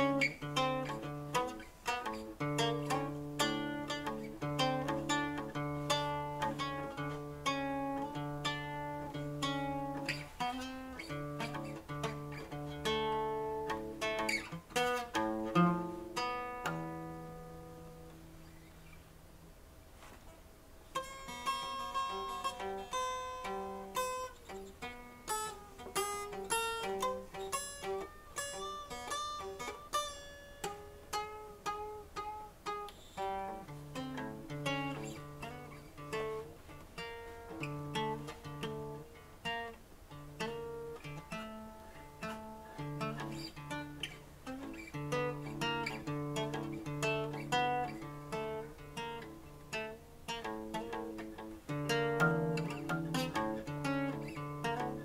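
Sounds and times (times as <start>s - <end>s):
picked acoustic guitar music: 0.0s - 55.0s.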